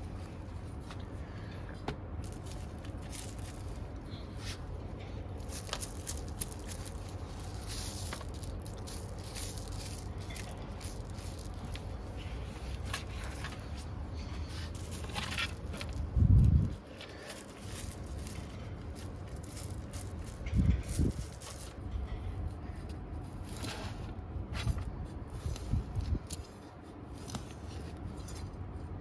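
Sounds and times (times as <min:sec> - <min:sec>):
handling scrapes and rustles: 0:00.0 - 0:29.0
steady low hum: 0:00.0 - 0:29.0.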